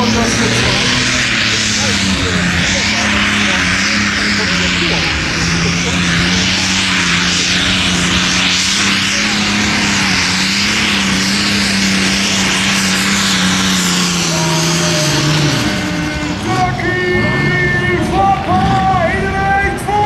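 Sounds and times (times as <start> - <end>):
loud diesel engine drone: 0.0 - 20.0.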